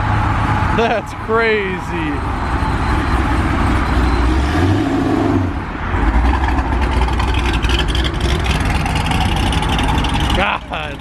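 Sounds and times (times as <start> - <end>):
car engine revving: 2.1 - 11.0.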